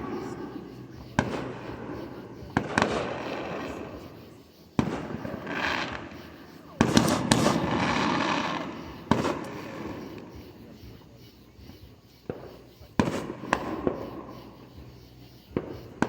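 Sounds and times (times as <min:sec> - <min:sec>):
fireworks bangs with rumbling echo: 0:00.0 - 0:11.1, 0:11.8 - 0:14.8, 0:15.5 - 0:16.0.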